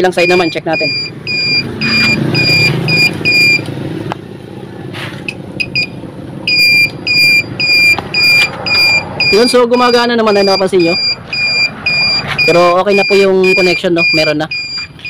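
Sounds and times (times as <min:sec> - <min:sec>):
turn-signal beeper: 0:00.0 - 0:03.6, 0:05.6 - 0:15.0.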